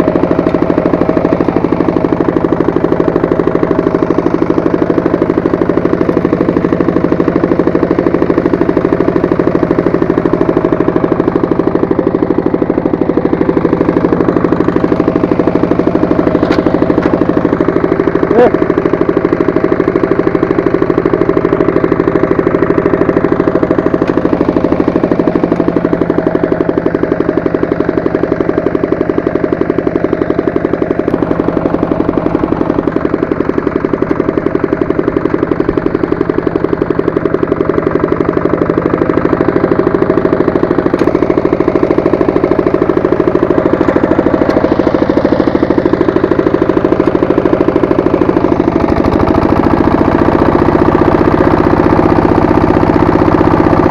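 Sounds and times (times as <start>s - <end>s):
walk-behind tractor engine running: 0.0s - 53.9s.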